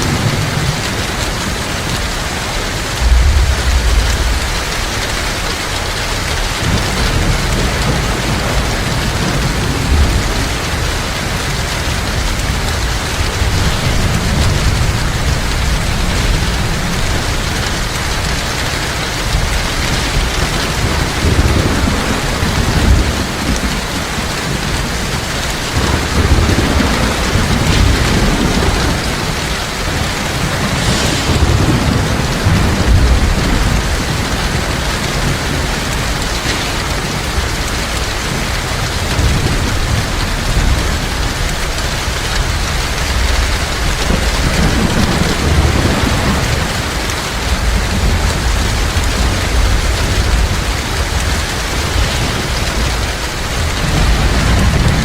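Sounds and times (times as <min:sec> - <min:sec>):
heavy rain falling: 0:00.0 - 0:55.0
thunder rumbling: 0:00.0 - 0:55.0.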